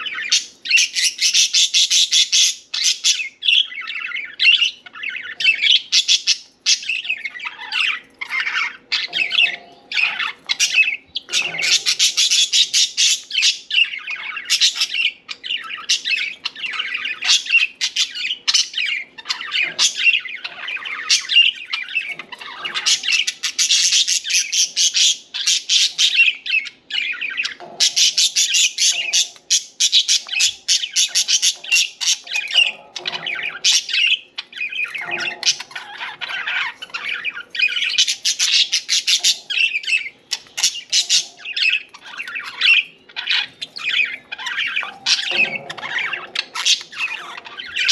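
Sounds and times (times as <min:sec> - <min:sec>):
budgerigars chirping and chattering: 0:00.0 - 0:47.9
budgerigar squawks: 0:04.6 - 0:47.9.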